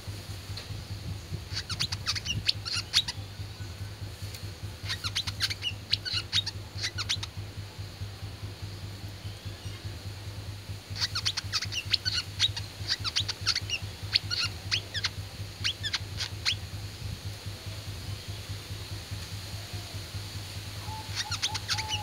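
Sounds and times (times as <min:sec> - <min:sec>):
steady low hum: 0:00.0 - 0:22.0
bird chirping: 0:00.6 - 0:20.1, 0:20.8 - 0:22.0.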